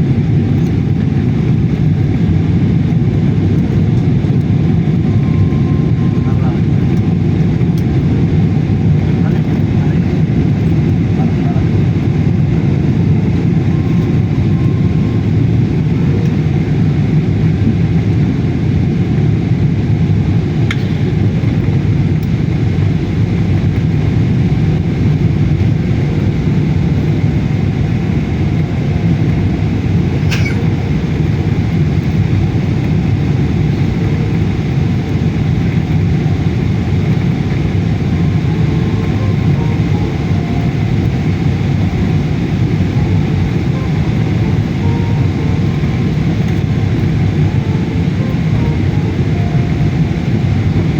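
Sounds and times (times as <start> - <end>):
airliner rumble: 0.0 - 50.9.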